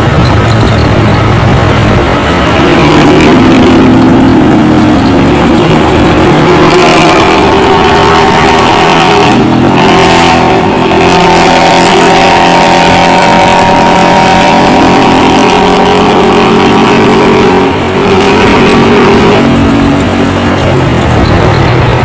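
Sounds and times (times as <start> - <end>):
bus diesel engine growling: 0.0 - 22.0.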